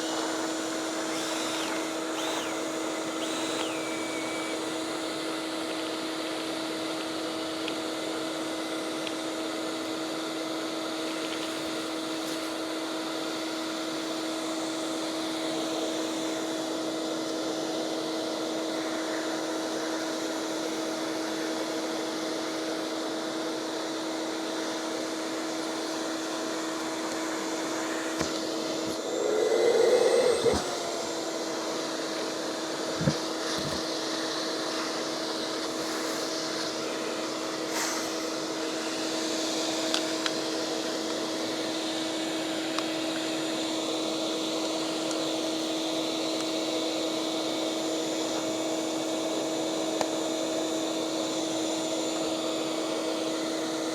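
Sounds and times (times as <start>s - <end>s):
shop vacuum humming: 0.0s - 53.9s.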